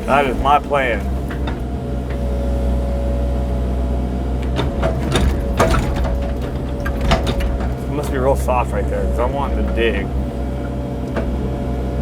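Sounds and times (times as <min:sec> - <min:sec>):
excavator clunks: 0:00.0 - 0:12.0
excavator diesel engine running: 0:00.0 - 0:12.0.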